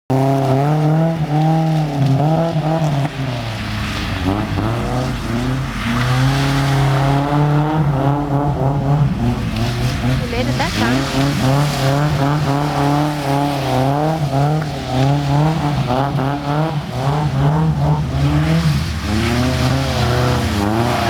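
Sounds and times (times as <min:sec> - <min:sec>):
car engine revving: 0:00.1 - 0:21.0.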